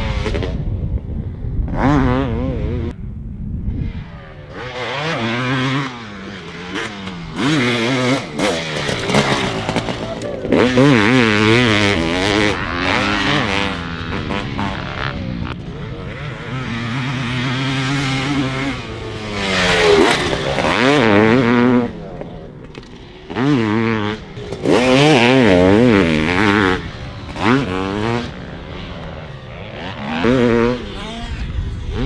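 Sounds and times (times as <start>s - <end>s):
motorcycle engine revving: 0.0s - 3.0s, 3.7s - 32.0s.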